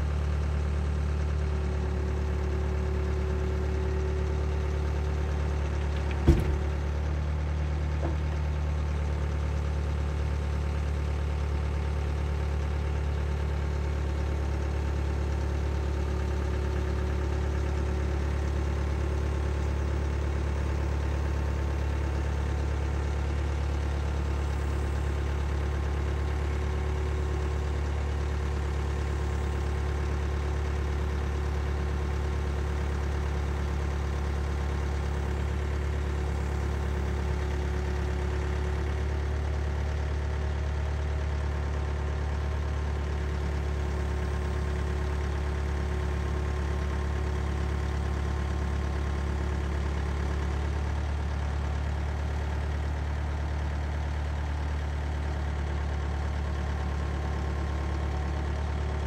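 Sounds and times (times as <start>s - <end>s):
loader engine running: 0.0s - 59.0s.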